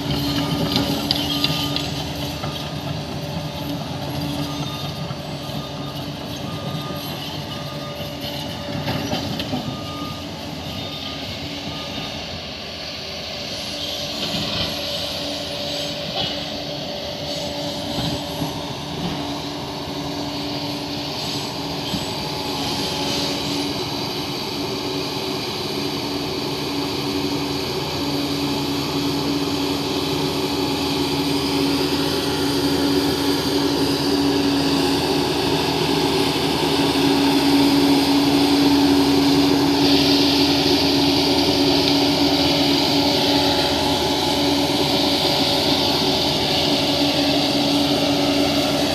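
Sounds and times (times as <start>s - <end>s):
bulldozer diesel engine running: 0.0s - 48.9s
reversing alarm beeping: 0.0s - 48.9s.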